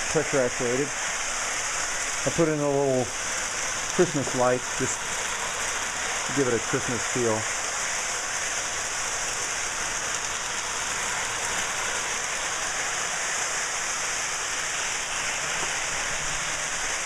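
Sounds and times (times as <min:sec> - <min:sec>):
model trains running on track: 0:00.0 - 0:17.0.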